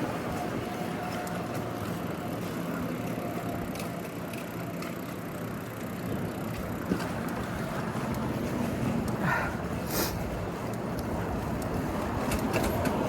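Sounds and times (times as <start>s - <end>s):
city traffic: 0.0s - 13.0s
faint engine-like hum: 0.0s - 13.0s.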